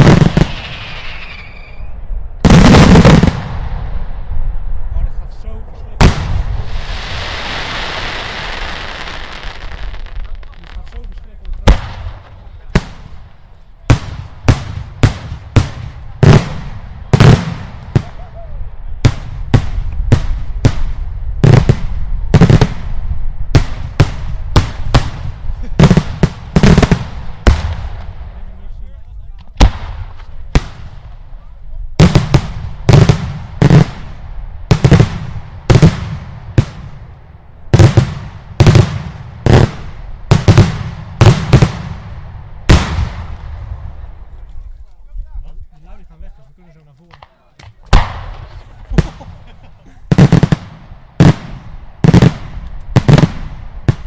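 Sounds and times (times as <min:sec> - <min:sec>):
firework bangs with rolling echo: 0:00.0 - 0:04.6, 0:06.0 - 0:18.4, 0:19.0 - 0:28.6, 0:29.5 - 0:31.4, 0:32.0 - 0:44.3, 0:47.8 - 0:54.0.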